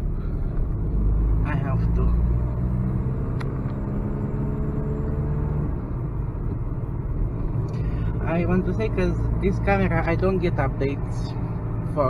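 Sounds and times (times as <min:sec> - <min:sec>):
car engine hum from cabin: 0:00.0 - 0:12.0
tyre road noise: 0:00.0 - 0:12.0.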